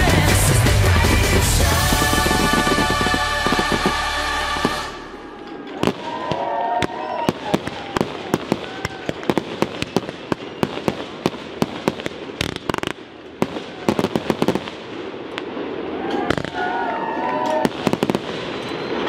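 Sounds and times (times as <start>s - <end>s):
firework bangs: 0.0s - 16.8s, 17.5s - 19.0s.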